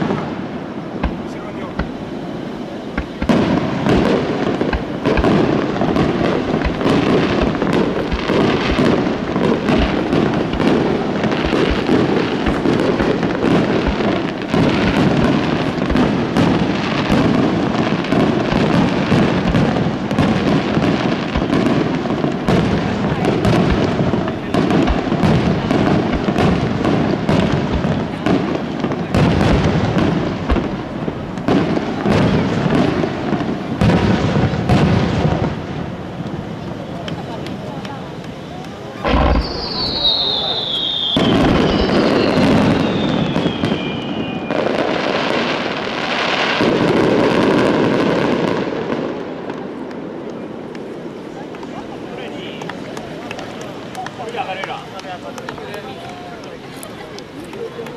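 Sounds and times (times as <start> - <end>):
firework shells bursting: 0.0 - 36.4, 37.0 - 48.6
firework crackling: 0.0 - 57.9.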